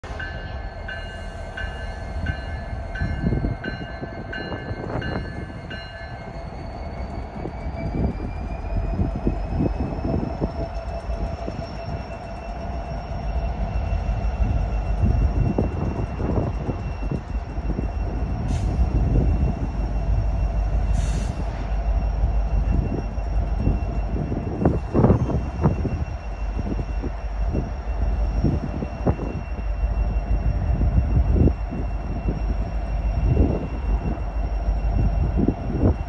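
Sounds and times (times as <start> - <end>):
train rumble: 0.0 - 36.0
locomotive bell ringing: 0.1 - 20.9, 21.6 - 36.0.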